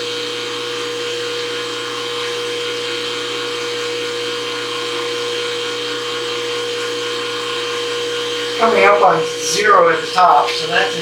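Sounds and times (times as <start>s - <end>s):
drive motor whining: 0.0s - 11.0s.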